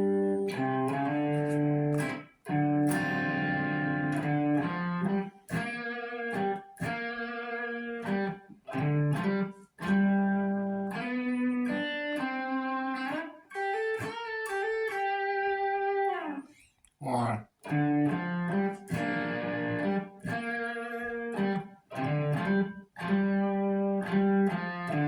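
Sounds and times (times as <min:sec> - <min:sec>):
electric guitar chord riff: 0:00.0 - 0:16.4, 0:17.6 - 0:25.0.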